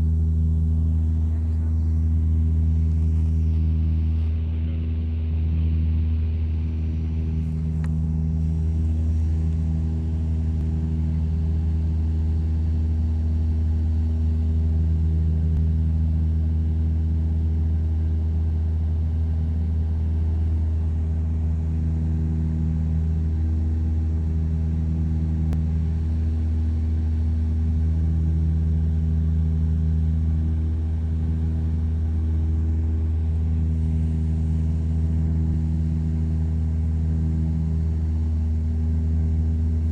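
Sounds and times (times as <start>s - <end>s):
propeller plane cabin drone: 0.0s - 39.9s.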